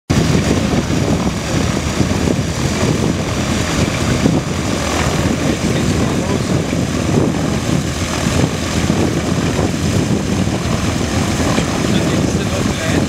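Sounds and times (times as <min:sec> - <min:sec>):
propeller plane engine droning: 0:00.1 - 0:13.0.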